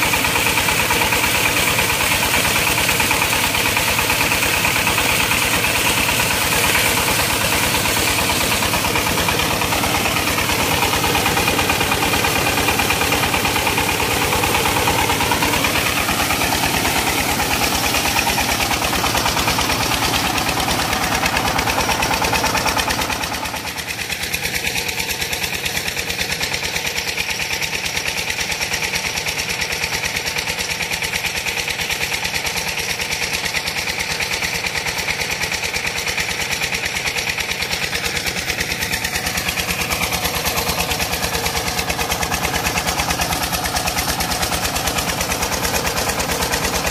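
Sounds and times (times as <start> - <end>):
diesel engine running: 0.0 - 46.9
water gushing from pipe: 0.0 - 46.9.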